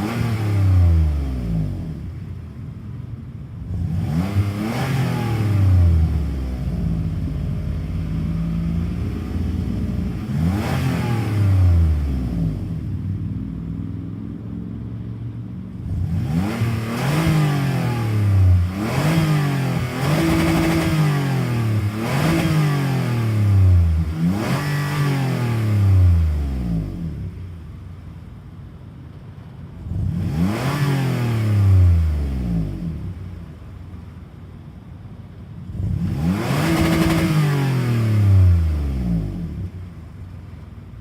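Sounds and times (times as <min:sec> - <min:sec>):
car engine revving: 0:00.0 - 0:02.8, 0:03.6 - 0:27.9, 0:29.8 - 0:34.5, 0:35.6 - 0:40.6.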